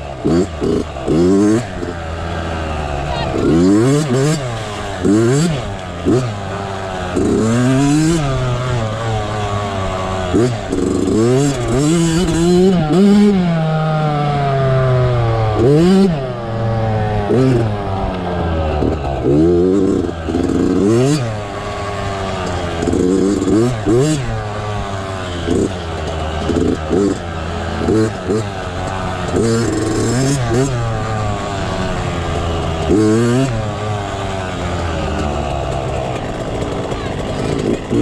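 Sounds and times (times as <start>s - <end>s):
dirt-bike engine revving: 0.0s - 38.0s.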